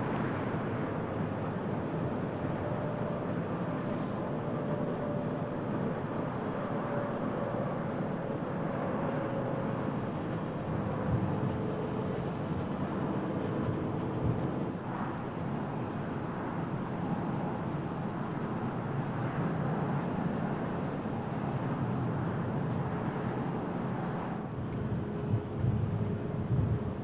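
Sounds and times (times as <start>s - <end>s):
faint engine whine: 0.0s - 27.0s
jet engines rumbling: 0.0s - 27.0s.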